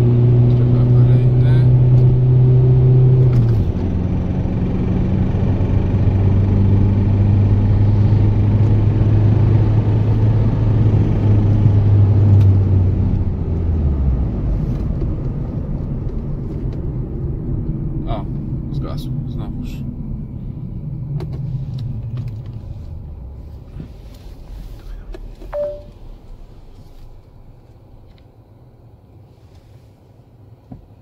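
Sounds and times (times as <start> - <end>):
diesel engine under load: 0.0 - 28.8.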